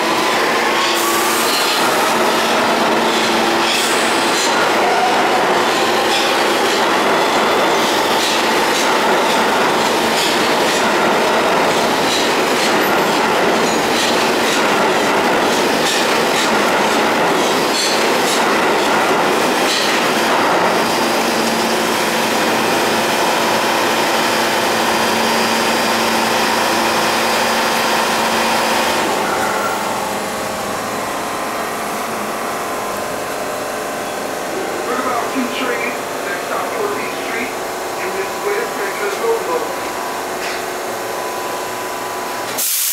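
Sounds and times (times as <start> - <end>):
subway train wheels clattering: 0.0 - 42.9.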